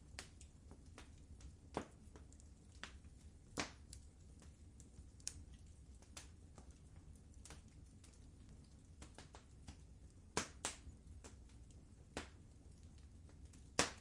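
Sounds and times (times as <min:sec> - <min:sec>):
faint low rumble: 0:00.0 - 0:14.0
fireplace fire crackling: 0:00.0 - 0:14.0.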